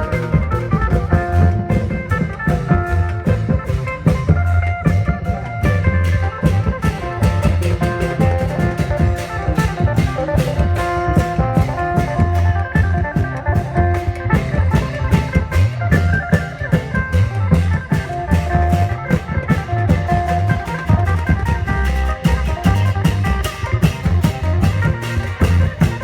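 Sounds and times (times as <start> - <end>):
drum band procession music: 0.0 - 26.0.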